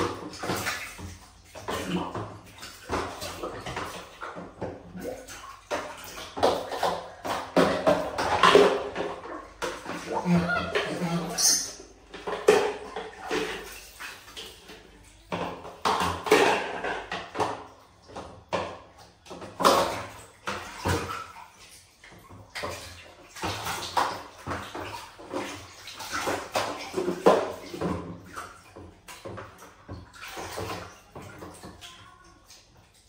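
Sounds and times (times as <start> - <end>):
bath water splashing: 0.0 - 33.0.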